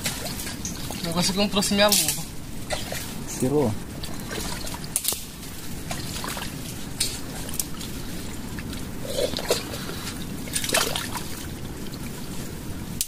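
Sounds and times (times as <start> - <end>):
mud squelching: 0.0 - 13.0
water trickling: 0.0 - 13.0.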